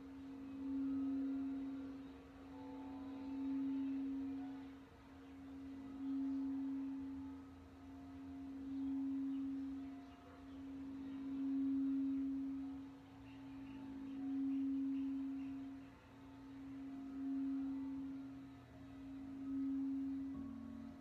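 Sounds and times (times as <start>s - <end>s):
singing bowl tone: 0.0s - 21.0s.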